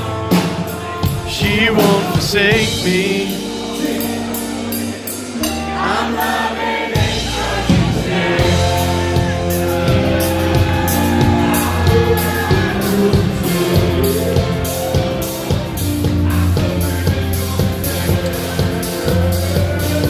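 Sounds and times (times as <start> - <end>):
bass guitar: 0.0 - 20.0
drum kit steady beat: 0.0 - 20.0
guitar and keyboard chords: 0.0 - 20.0.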